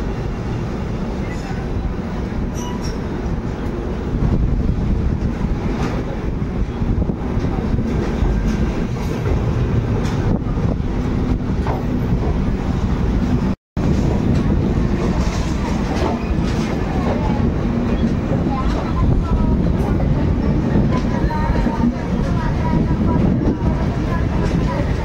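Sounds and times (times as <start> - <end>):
train coach rumbling: 0.0 - 25.0.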